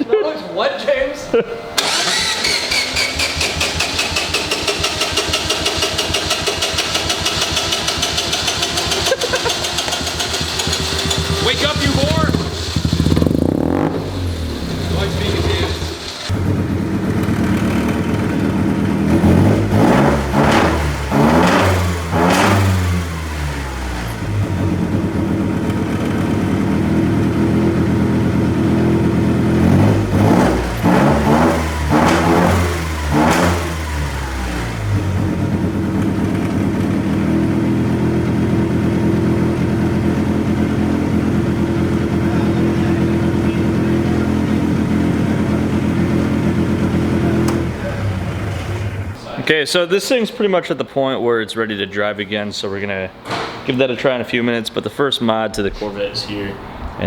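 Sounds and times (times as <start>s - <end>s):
rotary engine idling and revving: 1.8s - 49.2s.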